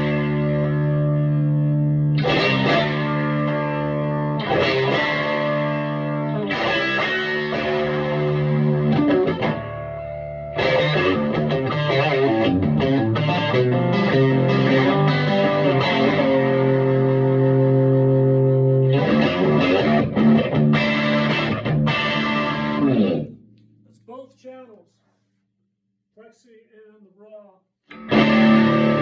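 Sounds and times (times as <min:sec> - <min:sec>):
electric guitar chords and riffs: 0:00.0 - 0:23.6, 0:27.9 - 0:29.0.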